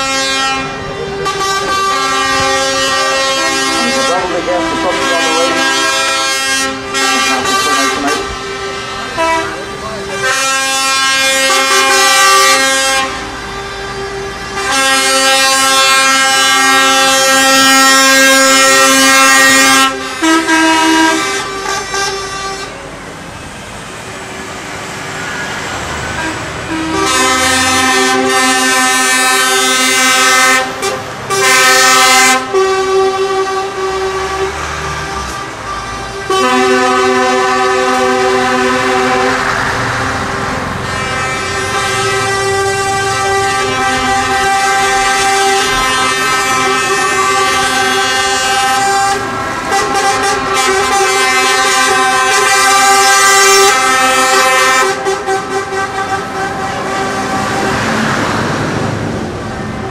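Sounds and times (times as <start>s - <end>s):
truck air horn blasts: 0.0s - 23.1s, 25.3s - 58.6s
lorry engines rumbling past: 0.0s - 59.9s.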